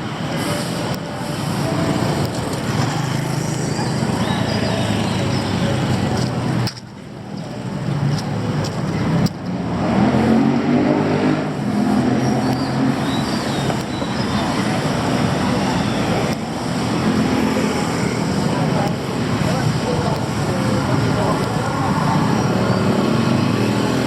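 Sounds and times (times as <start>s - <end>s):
vehicle engines passing: 0.0s - 24.0s.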